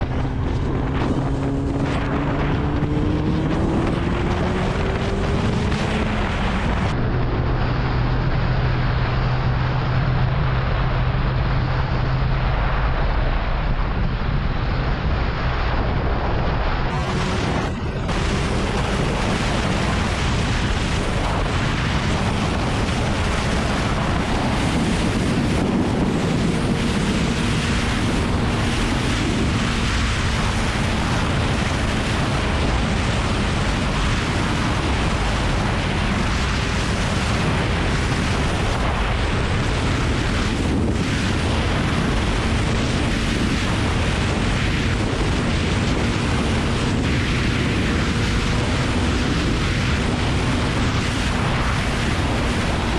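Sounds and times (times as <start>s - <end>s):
motorcycle engine droning: 0.0s - 52.9s
wind rush over microphone: 0.0s - 52.9s.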